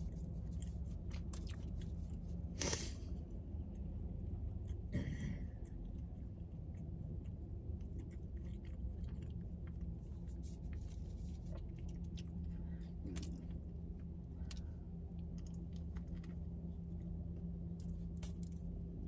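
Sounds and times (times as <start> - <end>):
close-up chewing: 0.0 - 19.0
steady low hum: 0.0 - 19.0.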